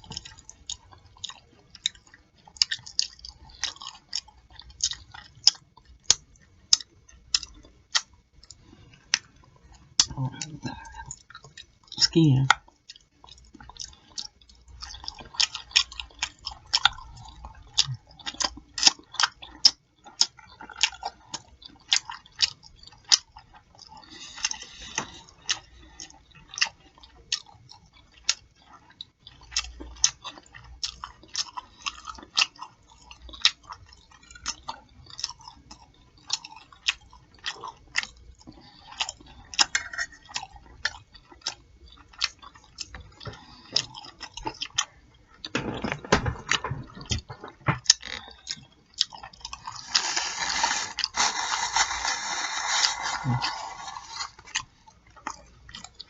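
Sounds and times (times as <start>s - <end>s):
person chewing and lip smacking: 0.0s - 45.8s, 46.6s - 56.0s.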